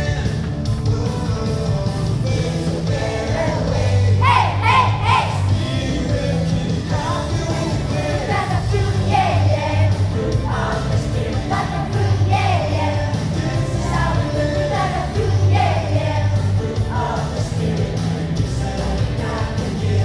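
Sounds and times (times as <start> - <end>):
band accompaniment with bass: 0.0 - 20.0
person singing: 0.0 - 20.0.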